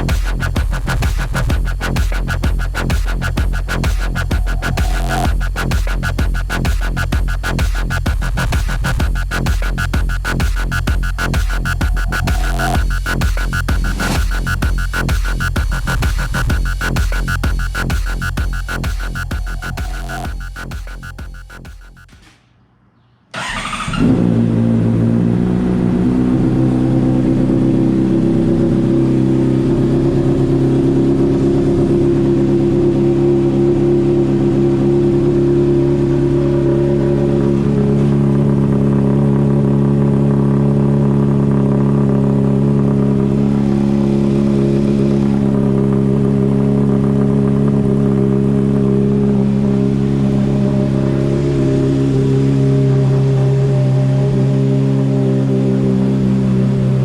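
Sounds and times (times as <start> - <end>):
motorcycle engine starting and idling: 0.0 - 22.5, 23.3 - 56.8.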